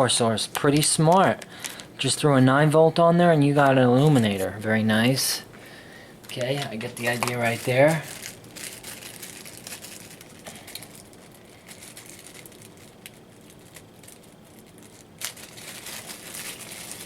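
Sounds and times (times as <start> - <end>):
packaging crinkling and rustling: 0.5 - 5.6, 6.2 - 17.0.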